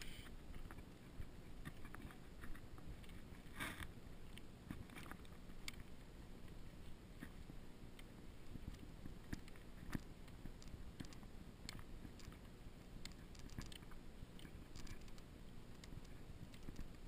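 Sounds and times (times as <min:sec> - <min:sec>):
low rumble of handled camera: 0:00.0 - 0:17.0.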